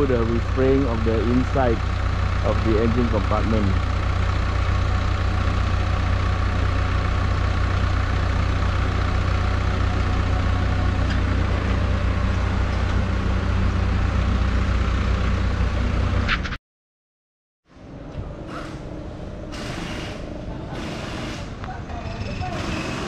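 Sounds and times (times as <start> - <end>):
truck engine idling: 0.0 - 16.3, 17.8 - 23.0.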